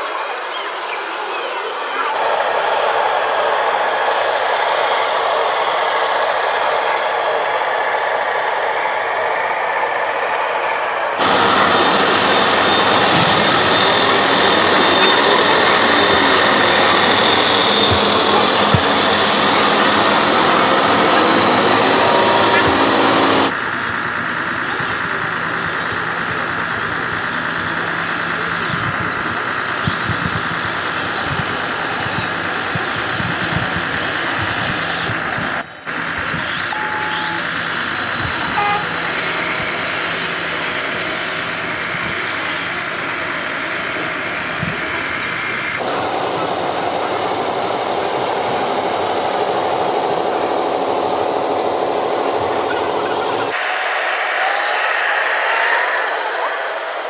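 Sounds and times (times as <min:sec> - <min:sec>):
toy truck motor whine: 0:00.0 - 0:57.0.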